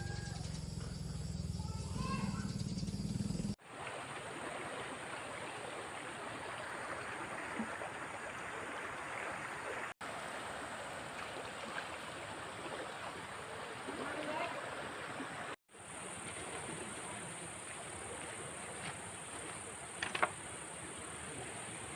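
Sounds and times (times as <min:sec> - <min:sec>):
flowing water rushing: 0:03.6 - 0:21.9.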